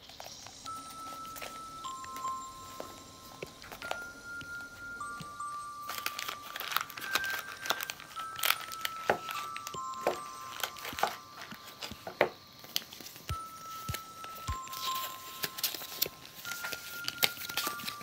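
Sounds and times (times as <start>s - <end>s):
cellophane bag crinkling: 0.0s - 18.0s
simple melody of held notes: 0.0s - 18.0s.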